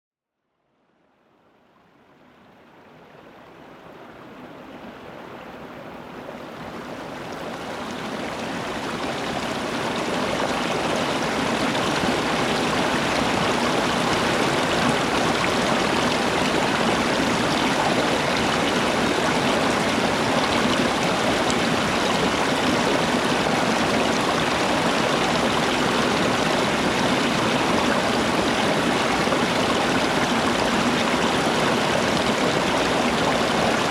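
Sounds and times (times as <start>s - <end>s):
stream water rushing: 1.8s - 33.9s.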